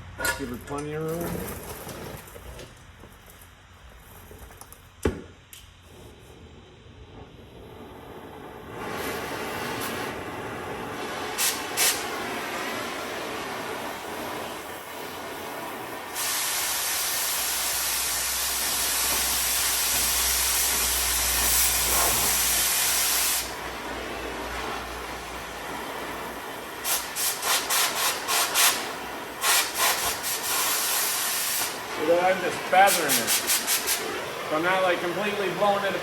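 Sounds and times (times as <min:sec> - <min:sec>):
cutting torch flame hiss: 0:00.6 - 0:36.0
cutting oxygen jet hissing: 0:05.8 - 0:36.0.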